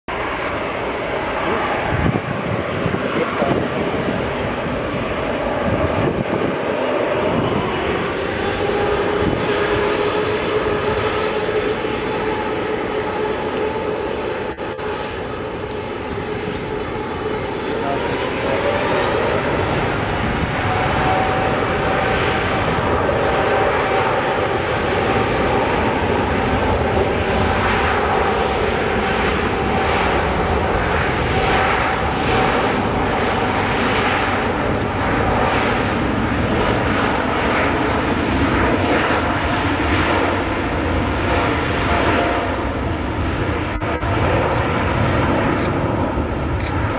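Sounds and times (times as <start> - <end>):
engine whine: 0.1 - 46.9
jet engines at takeoff thrust: 0.1 - 46.9.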